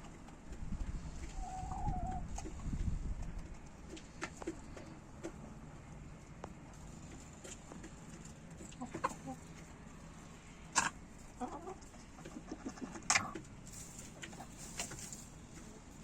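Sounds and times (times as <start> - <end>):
chicken clucking softly: 0.0 - 10.0, 10.7 - 15.9.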